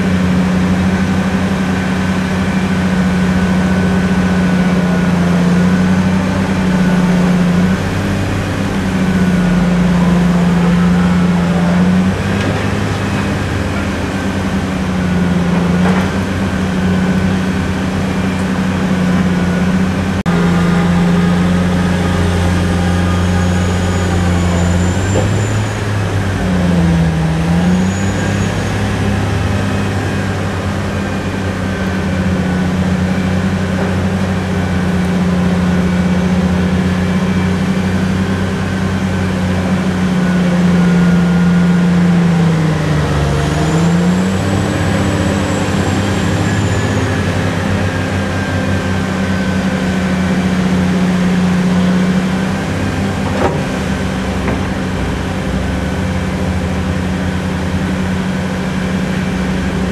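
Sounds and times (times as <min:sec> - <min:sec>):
heavy diesel engine drone: 0:00.0 - 0:59.9.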